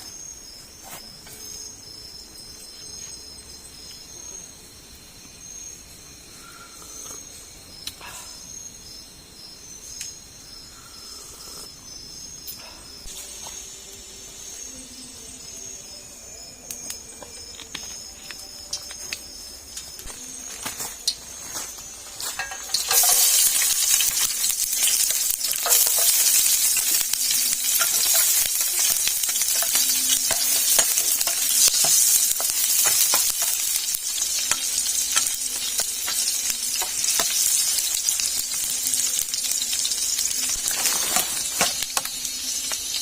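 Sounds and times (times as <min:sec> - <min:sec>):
sizzling hiss with crackling pops: 0:06.8 - 0:43.0.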